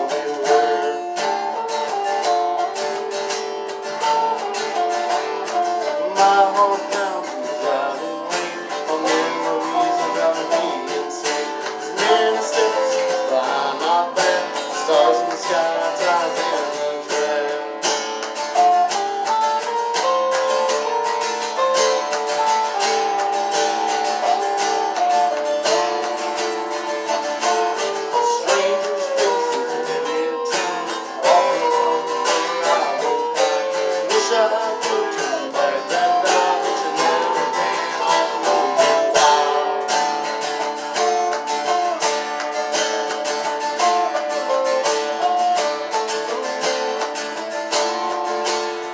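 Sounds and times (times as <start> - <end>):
acoustic guitars playing folk tune: 0.0 - 48.9.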